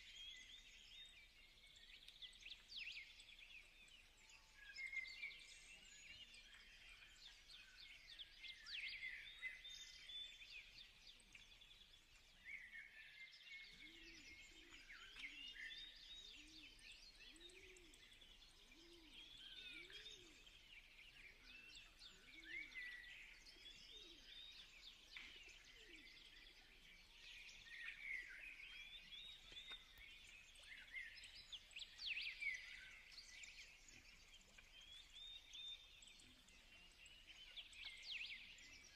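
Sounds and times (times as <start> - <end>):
faint bird chirps and trills: 0.0 - 38.9.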